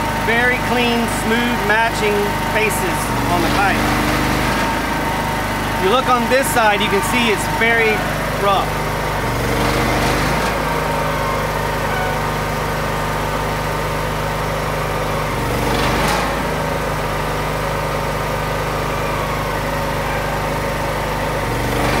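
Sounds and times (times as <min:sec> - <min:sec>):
electric rotary facer shaving pipe: 0:00.0 - 0:22.0.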